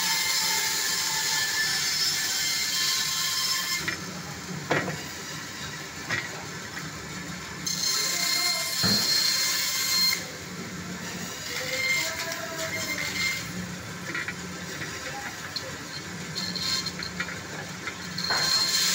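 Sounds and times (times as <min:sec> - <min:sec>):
band saw cutting frozen fish: 0:00.0 - 0:18.9.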